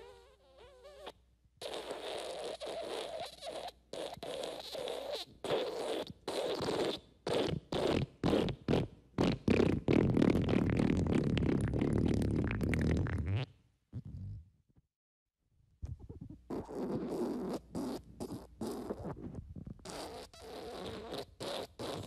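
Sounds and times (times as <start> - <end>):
farting sounds: 0.0 - 14.6, 15.8 - 22.0.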